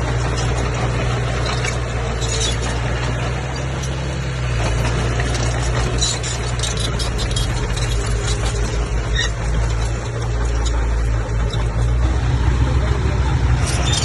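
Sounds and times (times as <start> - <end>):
high squeaks and clinks: 0.0 - 12.0, 13.6 - 14.0
bulldozer diesel engine drone: 0.0 - 14.0.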